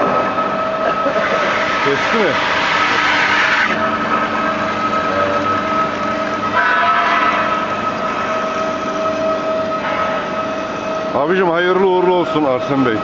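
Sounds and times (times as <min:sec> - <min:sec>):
band saw cutting metal: 0:00.0 - 0:13.0.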